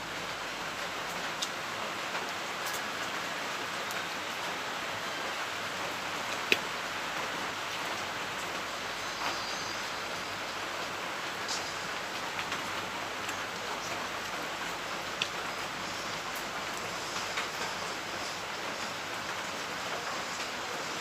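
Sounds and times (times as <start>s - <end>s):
steady rain-like hiss: 0.0s - 21.0s.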